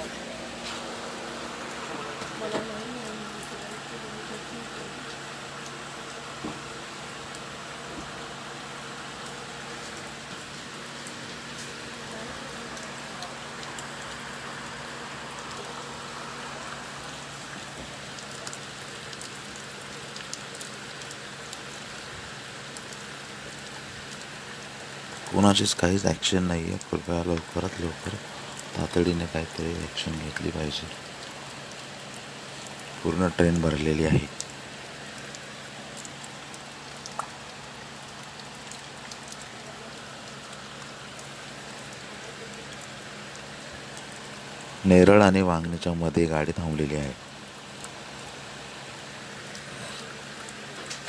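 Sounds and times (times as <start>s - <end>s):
heavy rain hissing: 0.0s - 51.0s
light drips: 0.0s - 51.0s
raindrop ticks: 1.1s - 51.0s.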